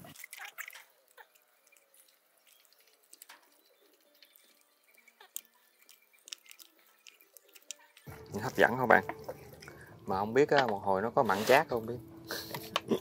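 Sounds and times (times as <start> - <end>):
wet squelches of hands mixing: 0.0 - 12.8.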